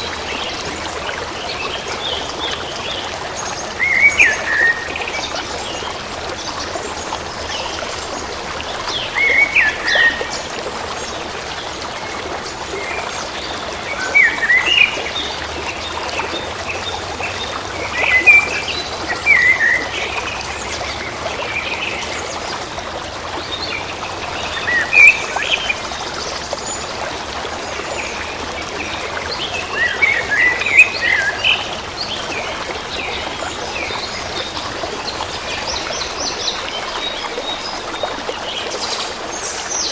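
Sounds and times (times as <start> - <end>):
songbirds chirping: 0.0 - 39.9
stream flowing: 0.0 - 39.9.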